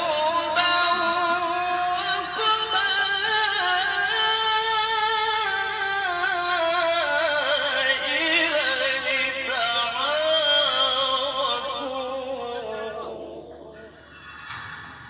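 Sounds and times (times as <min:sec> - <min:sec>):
person singing slow melody: 0:00.0 - 0:14.6.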